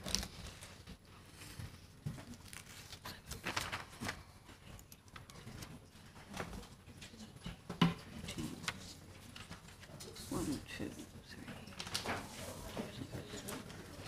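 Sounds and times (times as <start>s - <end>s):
faint paper rustling: 0.0s - 7.6s, 8.2s - 14.0s.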